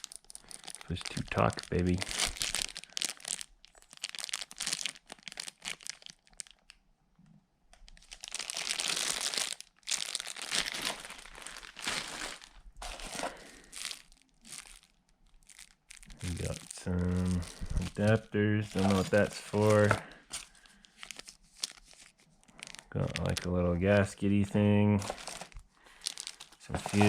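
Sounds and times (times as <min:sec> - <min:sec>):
plastic packaging crinkling: 0:00.0 - 0:06.8, 0:07.7 - 0:27.0.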